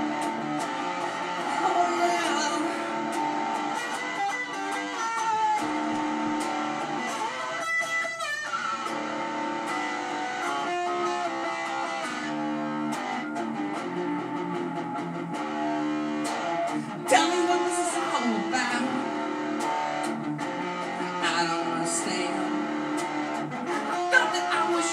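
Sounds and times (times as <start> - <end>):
guitar playing chords and picked notes: 0.0 - 24.9.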